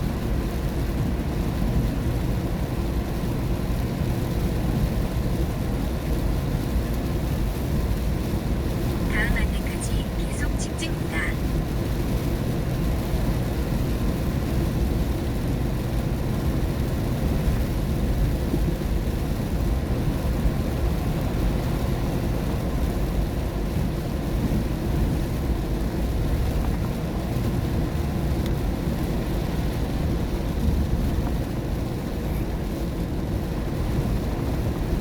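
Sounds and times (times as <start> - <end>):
car tyres and engine rumble: 0.0 - 9.1, 11.4 - 35.0
rain on a car: 0.0 - 35.0.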